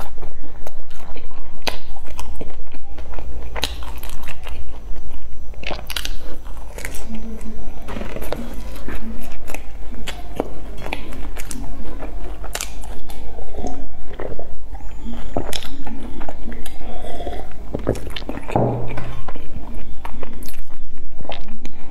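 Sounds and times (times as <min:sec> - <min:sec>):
chewing a soft bun: 0:00.0 - 0:21.9.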